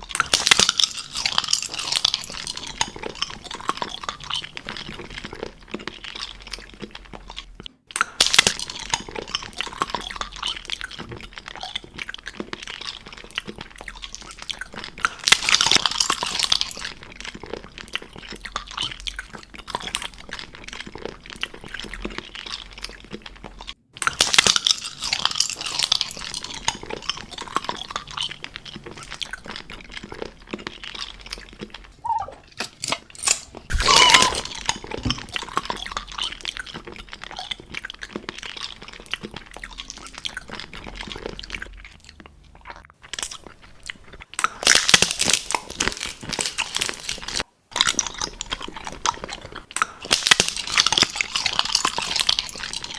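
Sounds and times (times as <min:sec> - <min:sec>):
crunchy food being chewed: 0:00.0 - 0:52.9.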